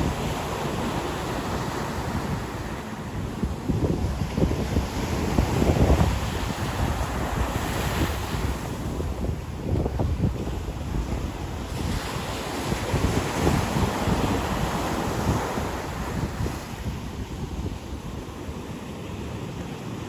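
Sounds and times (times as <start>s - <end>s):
ocean surf washing on beach: 0.0s - 20.0s
wind buffeting microphone: 0.0s - 20.0s.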